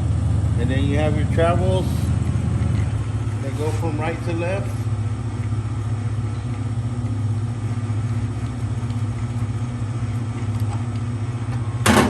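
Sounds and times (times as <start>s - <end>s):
milling machine motor humming: 0.0s - 12.0s.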